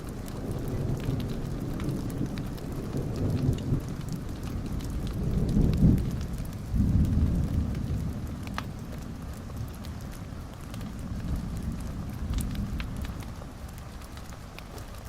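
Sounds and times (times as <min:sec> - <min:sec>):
fire crackling and popping: 0:00.0 - 0:15.0
rumble of fire flames: 0:00.0 - 0:15.0.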